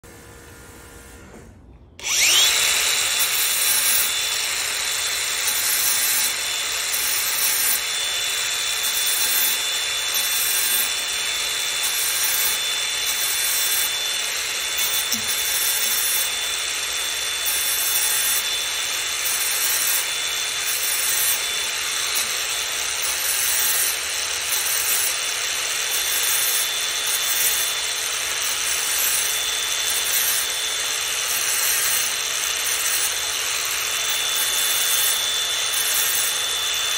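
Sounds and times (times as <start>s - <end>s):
angle grinder grinding steel: 2.0s - 36.9s.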